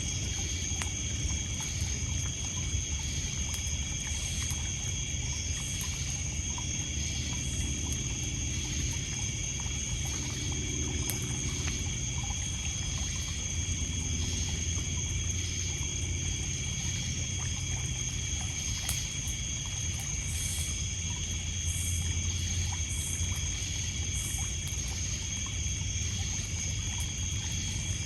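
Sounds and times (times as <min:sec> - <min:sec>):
crickets and insects chirping: 0:00.0 - 0:28.0
faint campfire crackles: 0:00.0 - 0:28.0.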